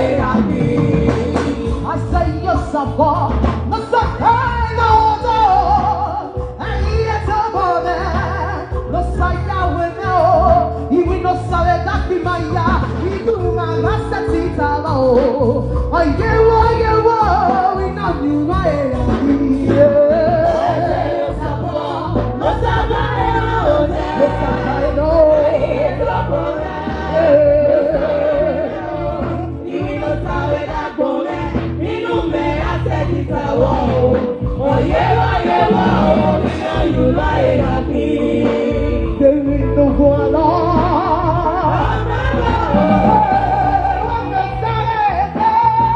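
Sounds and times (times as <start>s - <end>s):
instrumental backing with bass: 0.0s - 45.9s
voices singing gospel song: 0.0s - 45.9s.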